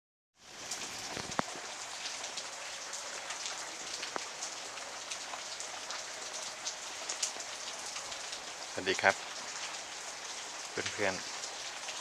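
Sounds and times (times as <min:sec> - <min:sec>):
steady rain falling: 0:00.4 - 0:12.0
water drips: 0:00.4 - 0:12.0.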